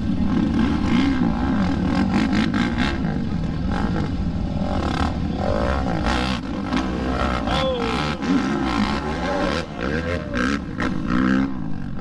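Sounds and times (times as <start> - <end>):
quad engines revving: 0.0 - 12.0.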